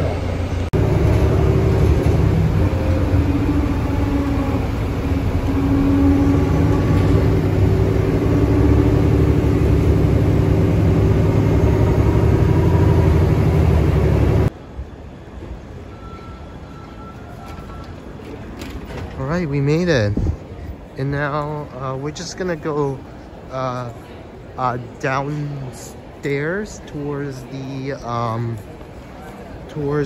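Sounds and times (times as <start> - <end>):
bus engine and road rumble: 0.0 - 15.9, 17.0 - 30.0.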